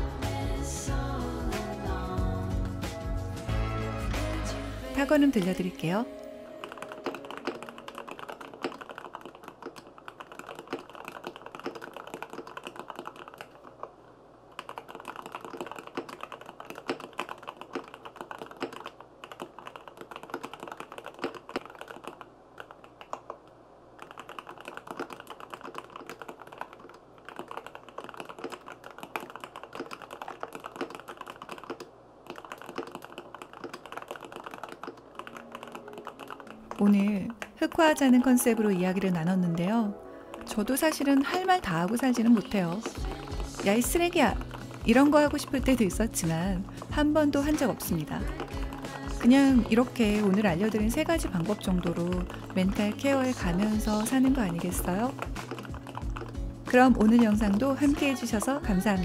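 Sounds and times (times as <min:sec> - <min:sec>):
mechanical keyboard typing: 0:04.9 - 0:59.0.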